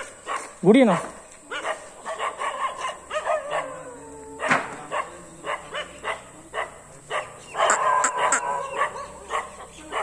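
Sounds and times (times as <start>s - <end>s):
dog barking: 0.0s - 0.6s, 1.5s - 10.0s.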